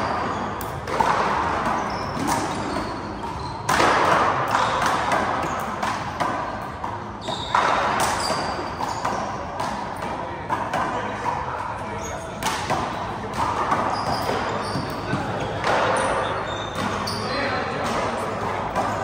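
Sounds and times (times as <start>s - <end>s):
sneaker squeaks on court: 0.0s - 10.0s, 11.8s - 19.0s
handball striking wall echoing: 0.0s - 19.0s.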